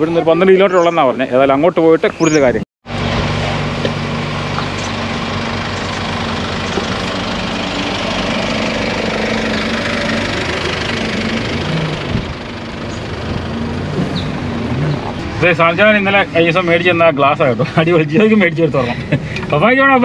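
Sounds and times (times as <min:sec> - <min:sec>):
road noise: 0:00.0 - 0:20.0
car engine droning: 0:02.8 - 0:20.0.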